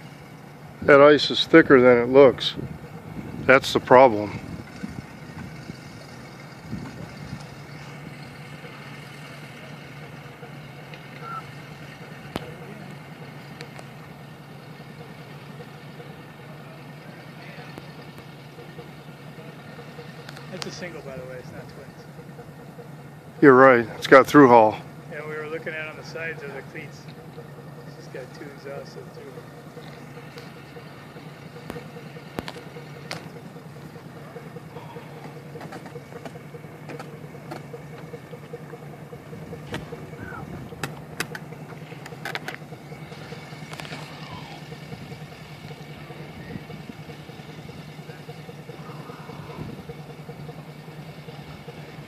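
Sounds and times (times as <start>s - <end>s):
boat engine low drone: 0.0s - 52.0s.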